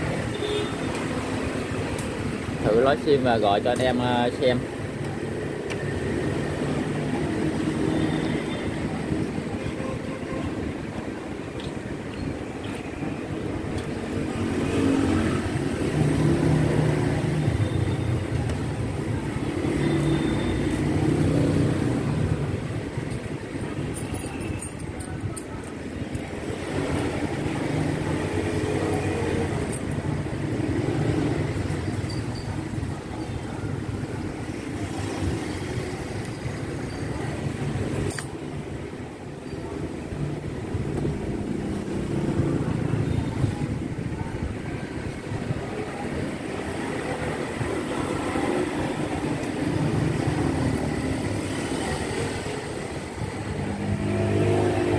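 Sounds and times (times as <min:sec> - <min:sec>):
passing road vehicles: 0:00.0 - 0:54.9.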